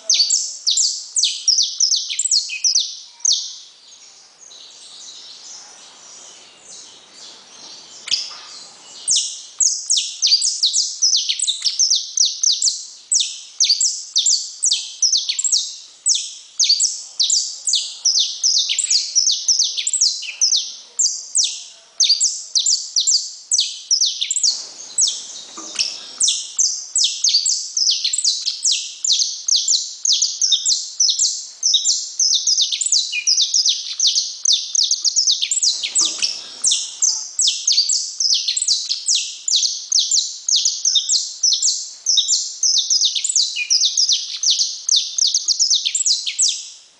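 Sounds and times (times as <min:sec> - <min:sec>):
finch singing: 0:00.0 - 0:46.7.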